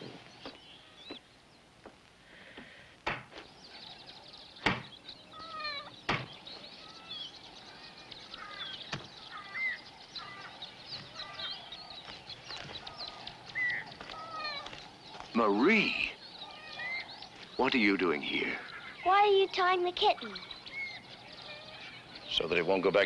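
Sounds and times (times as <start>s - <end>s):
high chirping calls: 3.3s - 23.0s.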